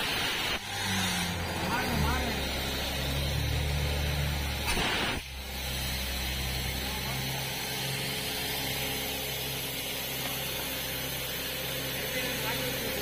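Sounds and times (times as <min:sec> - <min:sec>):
drilling rig engine humming: 0:00.6 - 0:13.0.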